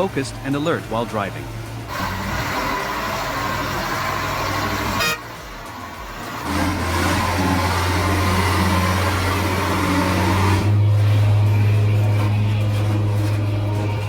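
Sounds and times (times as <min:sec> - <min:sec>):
steady low drone: 0:00.0 - 0:14.0
vehicle engine humming: 0:00.0 - 0:14.0.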